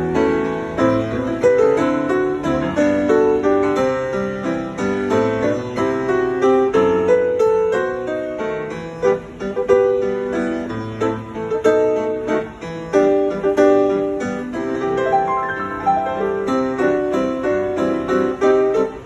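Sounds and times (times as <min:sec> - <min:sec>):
solo piano playing: 0:00.0 - 0:19.0.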